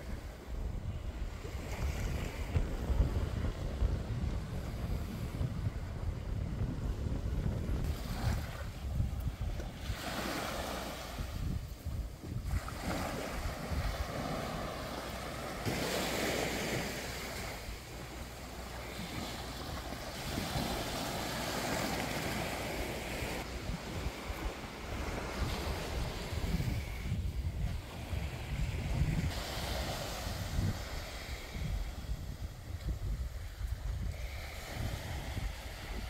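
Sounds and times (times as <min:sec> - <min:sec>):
small waves washing onto beach: 0:00.0 - 0:36.0
wind rumbling on microphone: 0:00.0 - 0:36.0.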